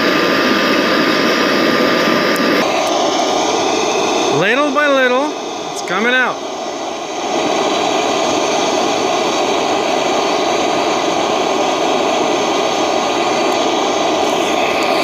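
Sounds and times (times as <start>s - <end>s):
propane forge burner rushing: 0.0s - 15.0s.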